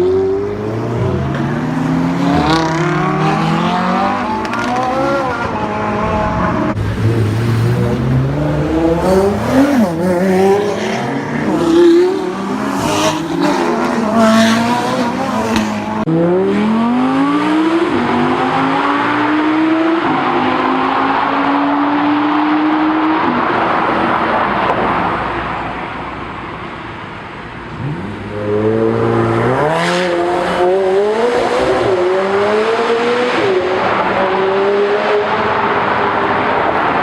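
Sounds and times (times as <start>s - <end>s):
car engine accelerating with upshifts: 0.0s - 23.7s, 27.7s - 37.0s.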